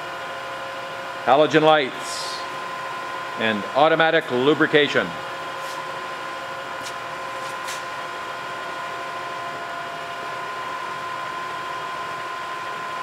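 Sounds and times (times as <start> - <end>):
milling machine hum: 0.0 - 13.0.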